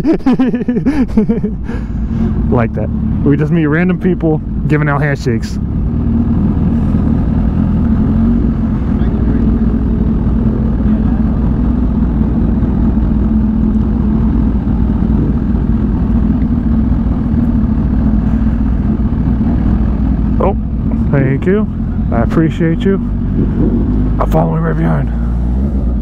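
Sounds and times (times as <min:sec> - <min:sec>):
motorcycle engine running at low revs: 0:00.0 - 0:26.0.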